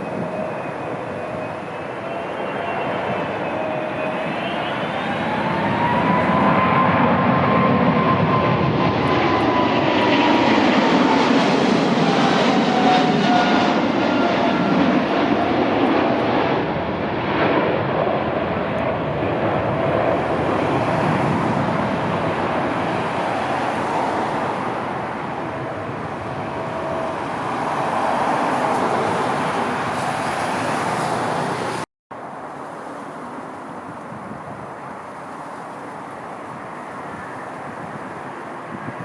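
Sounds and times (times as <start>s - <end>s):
airliner jet engine roar: 0.0s - 39.0s.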